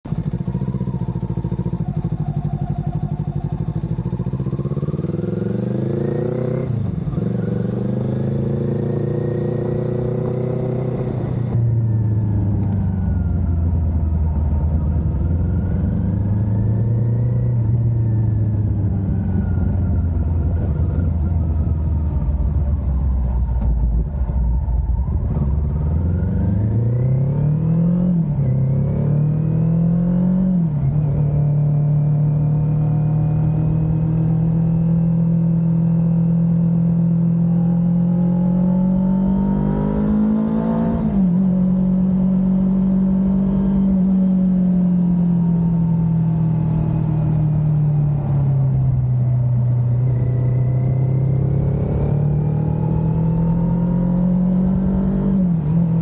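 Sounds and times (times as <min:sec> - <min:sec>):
motorcycle engine accelerating: 0:00.1 - 0:56.0.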